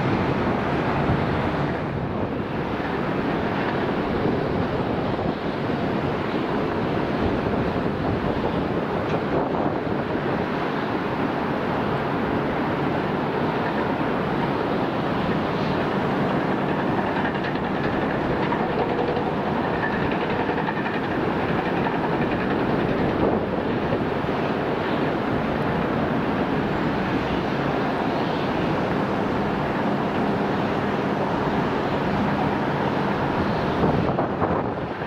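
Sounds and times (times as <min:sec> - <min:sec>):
jet engine rush: 0:00.0 - 0:35.0.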